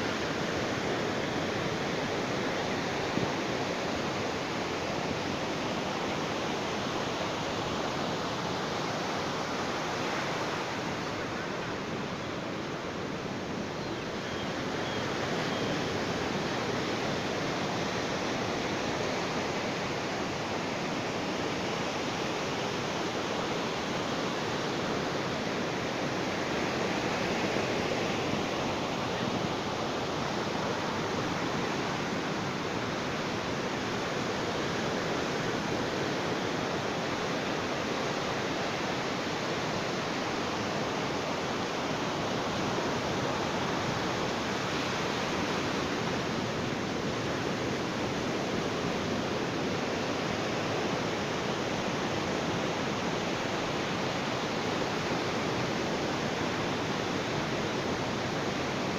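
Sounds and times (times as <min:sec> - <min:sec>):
ocean surf on a beach: 0:00.0 - 0:58.9.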